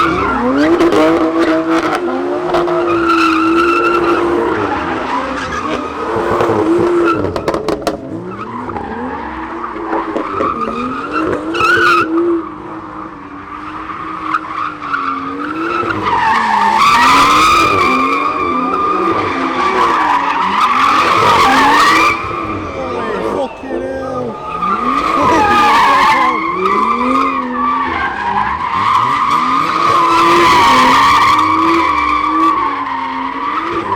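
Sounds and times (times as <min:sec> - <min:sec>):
car tyres screeching: 0:00.0 - 0:33.9.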